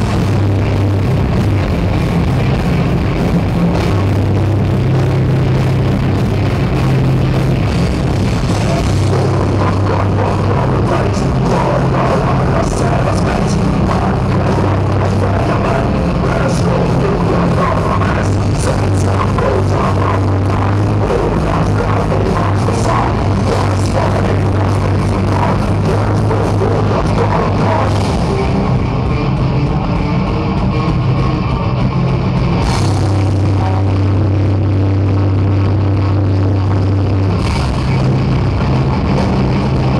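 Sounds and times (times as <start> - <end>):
heavy metal band playing live: 0.0 - 39.9.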